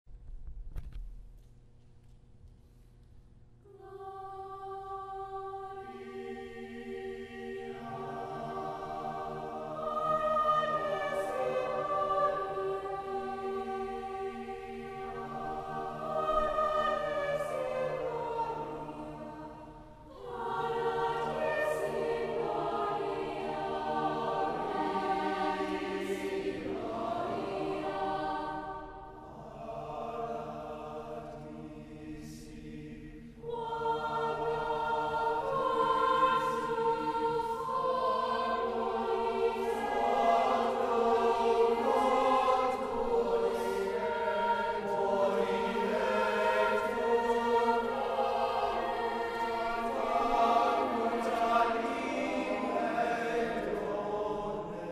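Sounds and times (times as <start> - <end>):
choir singing sustained chords: 3.6 - 54.9.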